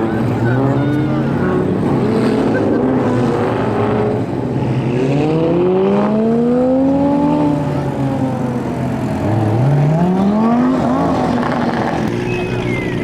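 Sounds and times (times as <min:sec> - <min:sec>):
car engine revving: 0:00.0 - 0:13.0
other engines running: 0:00.0 - 0:13.0.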